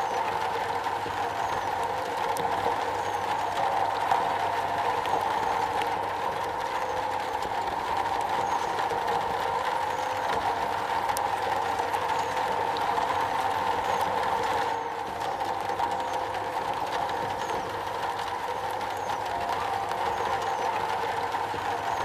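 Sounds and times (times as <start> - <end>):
rain drumming on a metal roof: 0.0 - 22.0.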